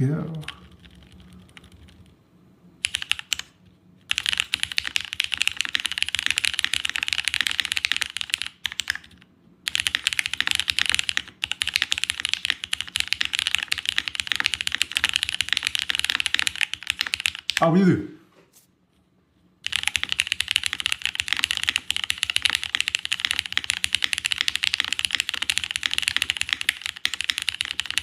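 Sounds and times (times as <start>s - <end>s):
mechanical keyboard typing: 0.2s - 2.1s, 2.8s - 17.7s, 19.6s - 28.0s.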